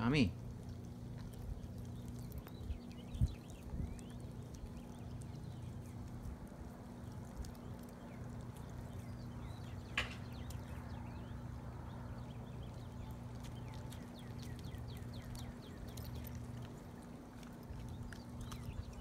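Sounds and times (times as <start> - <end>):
low hum: 0.0 - 19.0
dog chewing bone: 0.4 - 11.1, 12.1 - 19.0.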